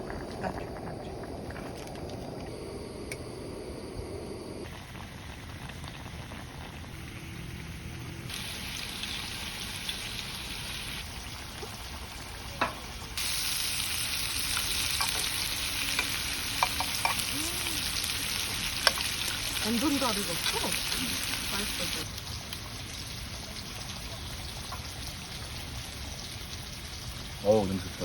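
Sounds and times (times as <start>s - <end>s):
meat sizzling in a pan: 4.8s - 28.0s.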